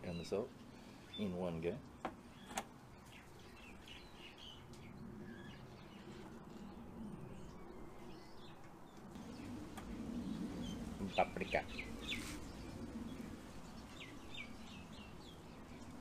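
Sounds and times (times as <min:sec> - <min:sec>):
faint birds chirping: 0:00.0 - 0:16.0
outdoor background noise: 0:00.0 - 0:16.0.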